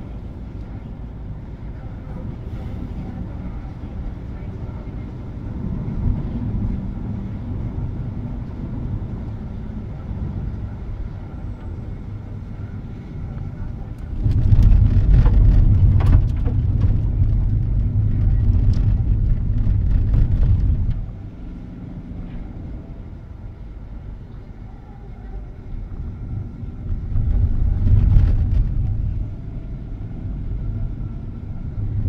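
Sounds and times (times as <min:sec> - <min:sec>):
car tyre rumble: 0:00.0 - 0:32.0.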